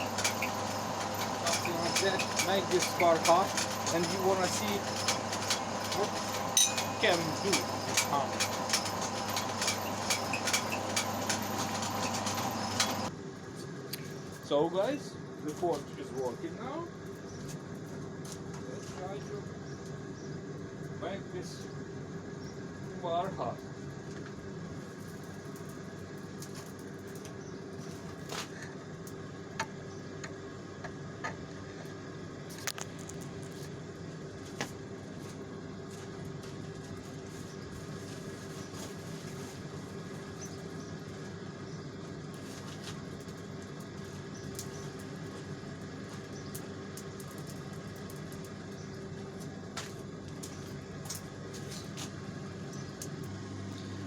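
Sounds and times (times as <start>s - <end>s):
forge blower humming: 0.0s - 54.0s.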